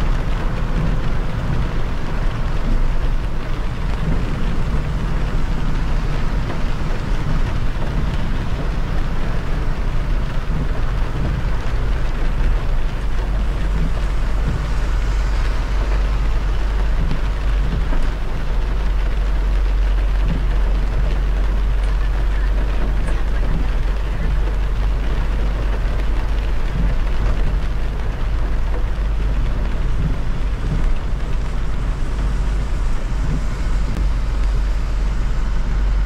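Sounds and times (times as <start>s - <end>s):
engine and tyres rumbling: 0.0s - 36.0s
rain hiss on wet road: 0.0s - 36.0s.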